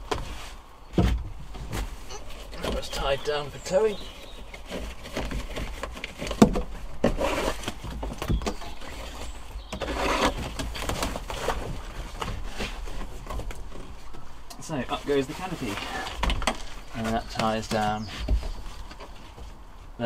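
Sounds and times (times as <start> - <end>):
canvas cloth rustling: 0.0 - 20.0.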